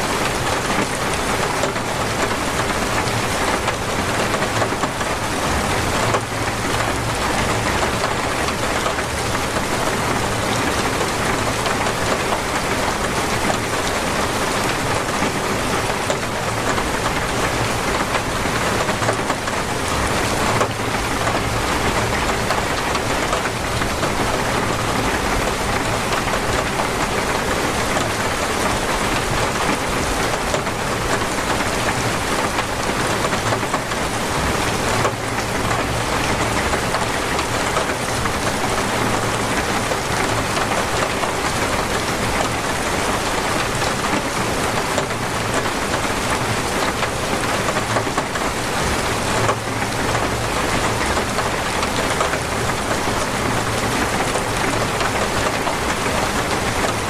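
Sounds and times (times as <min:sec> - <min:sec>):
heavy rain splashing: 0:00.0 - 0:57.0.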